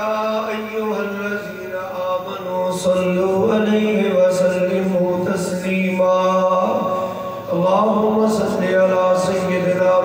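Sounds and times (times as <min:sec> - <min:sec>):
man chanting: 0:00.0 - 0:10.0.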